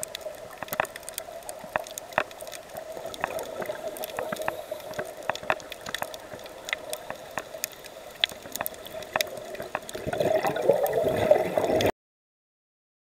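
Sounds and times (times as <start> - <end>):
sharp crackling clicks: 0.0 - 11.9
underwater bubbles gurgling: 0.0 - 11.9.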